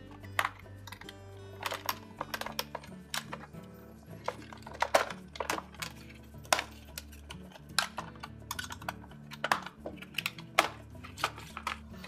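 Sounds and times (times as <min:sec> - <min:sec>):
plastic panels clicking and snapping: 0:00.0 - 0:12.0.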